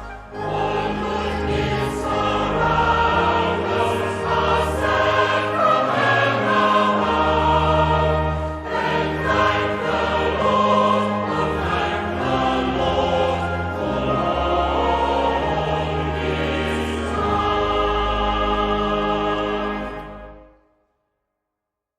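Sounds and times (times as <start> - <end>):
choir singing sustained chords: 0.0 - 20.7.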